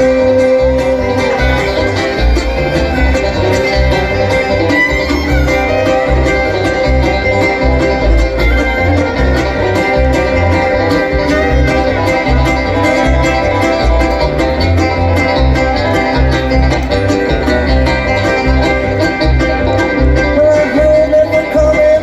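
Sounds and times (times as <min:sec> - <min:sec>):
bluegrass band playing: 0:00.0 - 0:22.0
fast banjo picking: 0:00.0 - 0:22.0.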